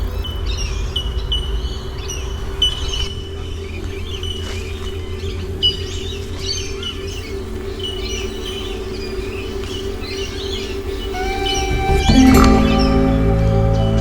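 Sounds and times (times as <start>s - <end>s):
music: 0.0s - 14.0s
wild birds chirping: 0.0s - 14.0s.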